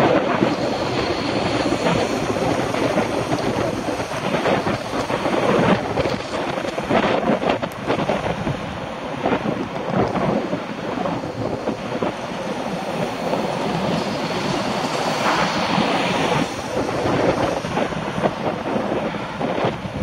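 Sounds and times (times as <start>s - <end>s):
wind over microphone: 0.0s - 20.0s.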